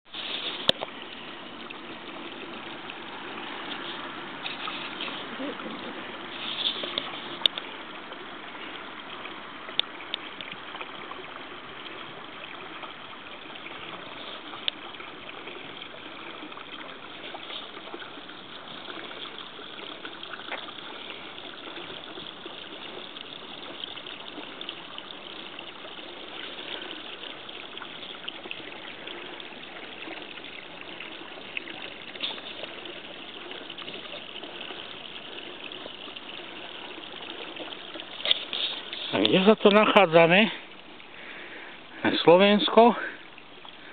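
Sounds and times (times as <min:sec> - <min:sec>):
water trickling into pond: 0:00.0 - 0:43.9.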